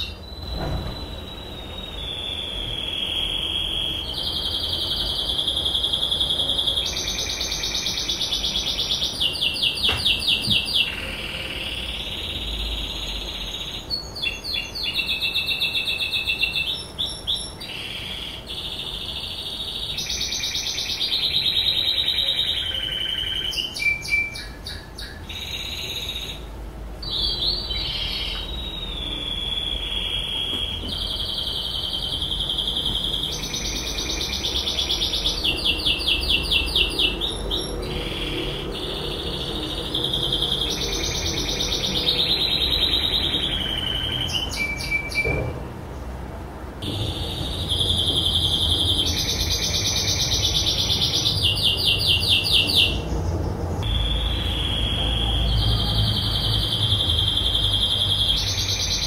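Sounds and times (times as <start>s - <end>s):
canary singing trills: 0.0s - 45.6s, 46.8s - 59.0s.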